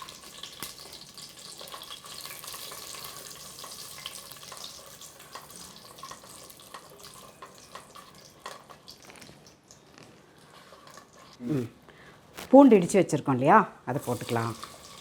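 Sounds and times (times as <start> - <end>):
spices sizzling in hot fat: 0.0 - 11.4, 13.9 - 15.0.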